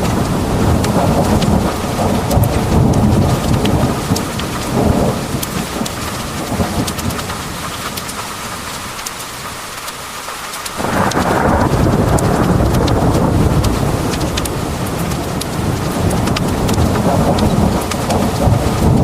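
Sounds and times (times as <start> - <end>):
thunder rumbling: 0.0 - 8.2, 10.7 - 19.0
heavy rain pouring: 0.0 - 19.0
raindrops ticking: 0.0 - 19.0.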